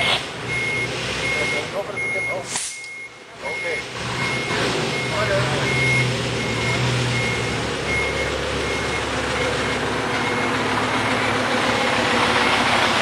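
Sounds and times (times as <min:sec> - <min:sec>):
truck engine running: 0:00.0 - 0:13.0
reversing beeper: 0:00.5 - 0:11.4, 0:12.3 - 0:12.7.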